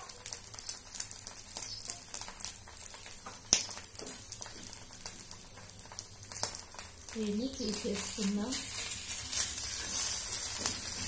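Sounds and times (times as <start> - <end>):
oil crackling and popping: 0.0 - 11.0.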